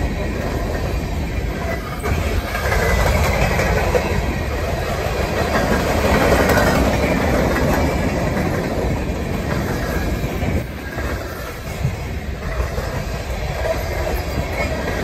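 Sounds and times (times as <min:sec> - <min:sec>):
freight train wheels clattering: 0:00.0 - 0:15.0.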